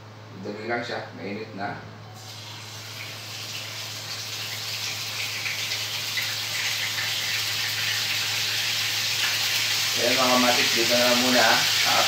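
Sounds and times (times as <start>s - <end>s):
chicken sizzling in hot oil: 2.2s - 12.0s.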